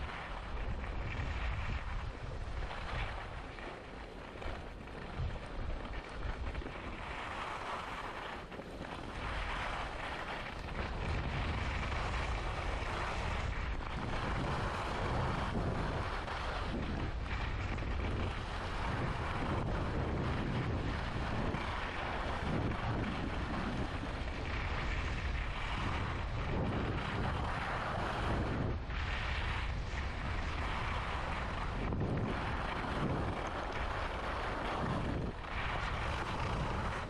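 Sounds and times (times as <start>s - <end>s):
skis hissing over snow: 0.0s - 5.1s, 5.8s - 37.0s
wind buffeting microphone: 0.0s - 37.0s.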